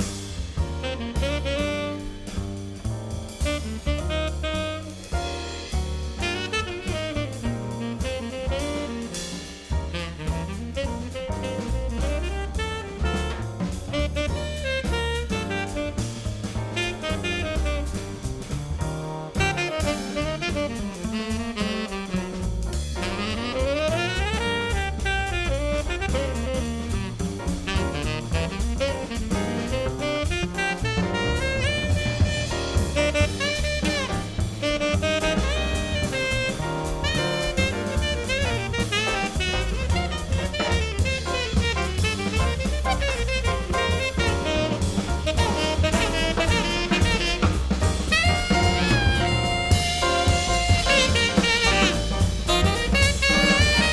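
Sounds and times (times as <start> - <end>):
bass: 0.0 - 53.9
drum kit: 0.0 - 53.9
saxophone: 0.8 - 2.3, 3.5 - 5.1, 6.2 - 18.2, 19.4 - 53.9.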